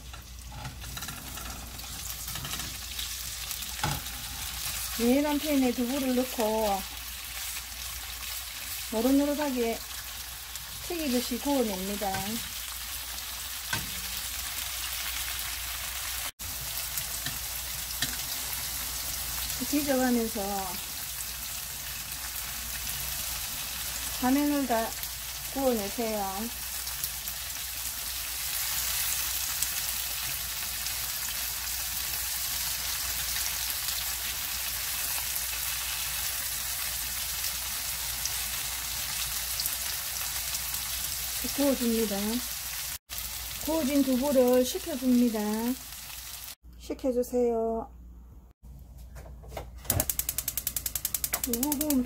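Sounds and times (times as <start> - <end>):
tofu sizzling in hot oil: 0.0 - 46.6.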